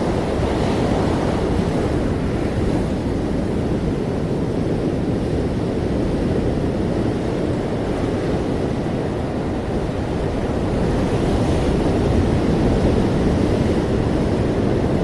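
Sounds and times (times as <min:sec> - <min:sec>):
ocean waves and surf: 0:00.0 - 0:15.0.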